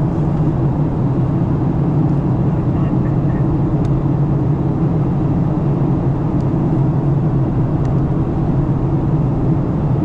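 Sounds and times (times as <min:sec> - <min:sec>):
jet engine drone: 0:00.0 - 0:10.0.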